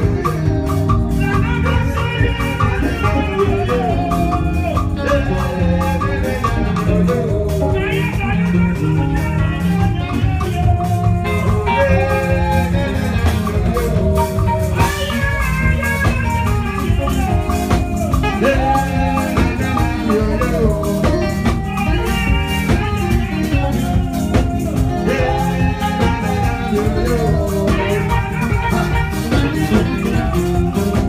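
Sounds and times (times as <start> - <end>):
drum kit dance beat: 0.0 - 31.0.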